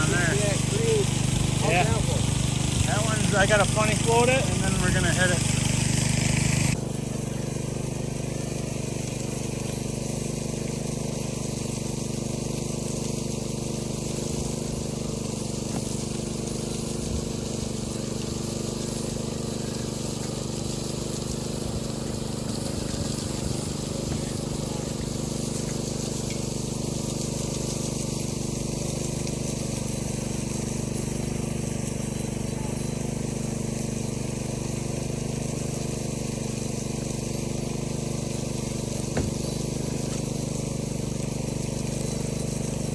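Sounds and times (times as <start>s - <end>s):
engine humming steadily: 0.0s - 42.9s.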